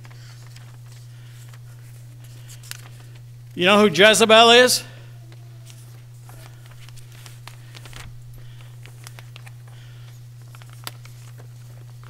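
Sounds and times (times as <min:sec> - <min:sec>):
paper rustling and shuffling: 0:00.0 - 0:03.3, 0:05.3 - 0:12.0
low electrical hum: 0:00.0 - 0:12.0.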